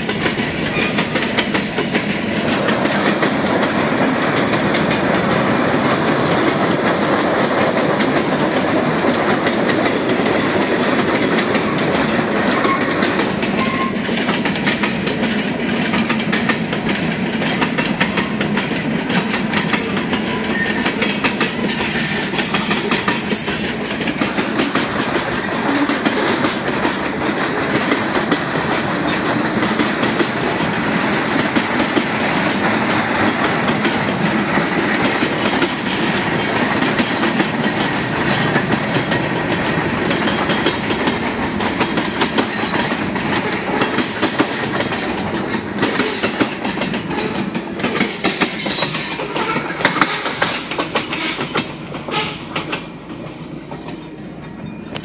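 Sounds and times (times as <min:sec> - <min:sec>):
train wheels rumbling on rail: 0:00.0 - 0:55.0
wheels clacking over rail joints: 0:00.0 - 0:55.0.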